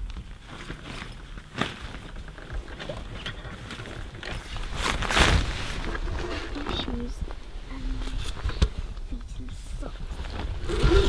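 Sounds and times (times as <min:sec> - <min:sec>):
tent fabric rustling: 0:00.0 - 0:11.0.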